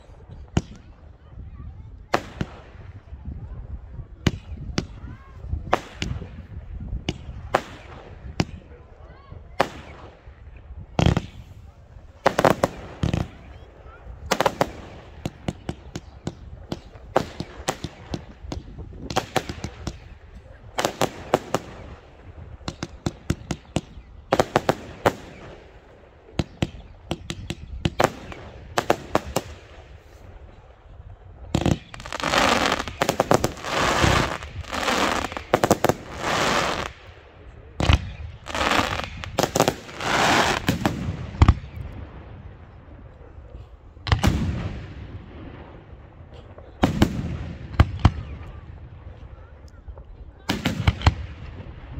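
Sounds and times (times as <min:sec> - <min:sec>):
dense fireworks bursts: 0:00.0 - 0:51.9
fireworks bangs: 0:04.2 - 0:08.8, 0:09.5 - 0:43.3, 0:44.0 - 0:51.9.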